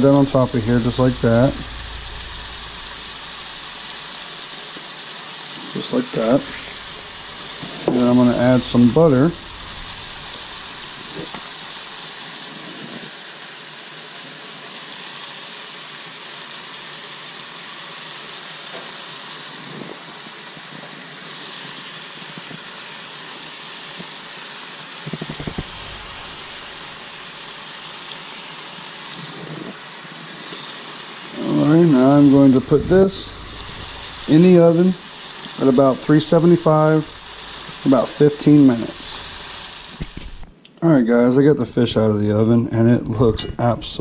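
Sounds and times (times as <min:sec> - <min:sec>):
fish fillets sizzling in oil: 0:00.1 - 0:40.5.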